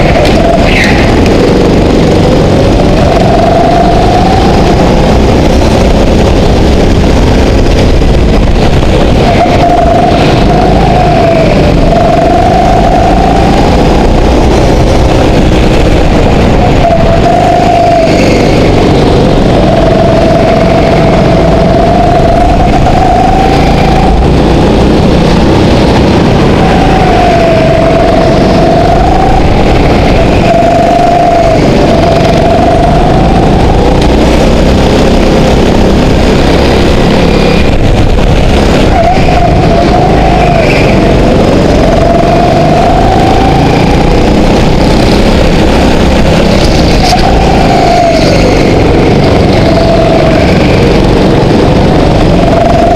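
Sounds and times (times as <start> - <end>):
go-kart engine revving: 0.0 - 52.9.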